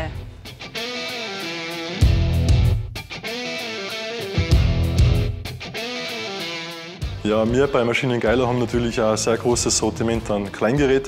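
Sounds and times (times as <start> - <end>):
guitar rock music: 0.0 - 11.0.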